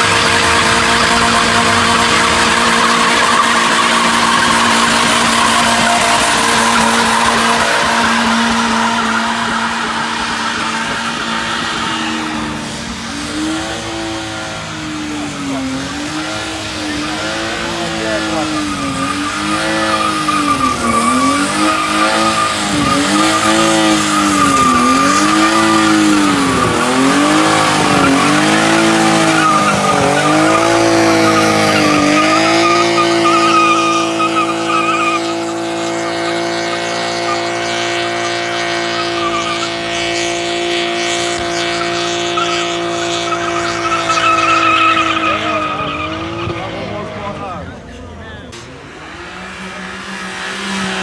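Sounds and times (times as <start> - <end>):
tyres squealing: 0.0 - 14.0, 15.4 - 48.1
car engine revving hard: 0.0 - 51.0.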